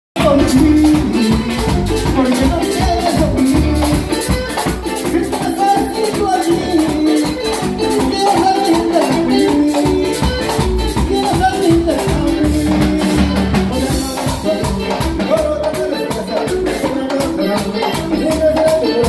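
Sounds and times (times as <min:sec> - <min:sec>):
guitars and bass: 0:00.2 - 0:19.0
hand drum: 0:00.2 - 0:19.0.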